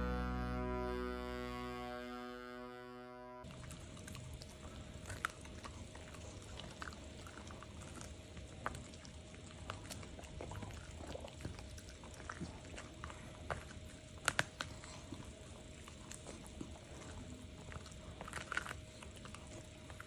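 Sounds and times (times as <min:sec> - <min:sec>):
faint steady hum: 0:00.0 - 0:20.0
dog crunching corn: 0:03.4 - 0:20.0.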